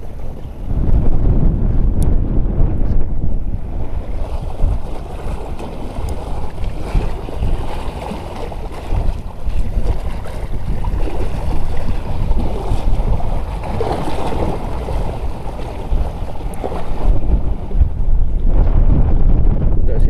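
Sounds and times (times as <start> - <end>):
choppy seawater: 0.0 - 20.0
wind buffeting microphone: 0.0 - 20.0.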